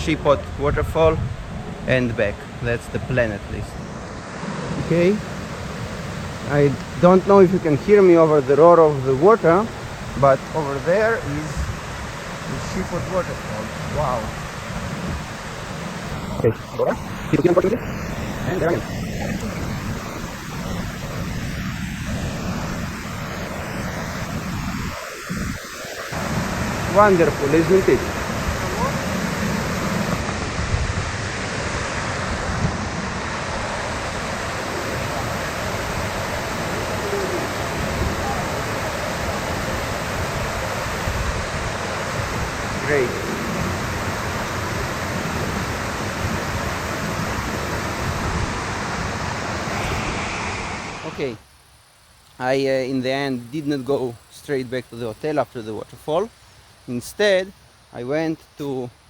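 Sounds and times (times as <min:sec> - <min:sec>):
wind rumbling on microphone: 0:00.0 - 0:54.3
waterfall roaring: 0:01.4 - 0:51.4.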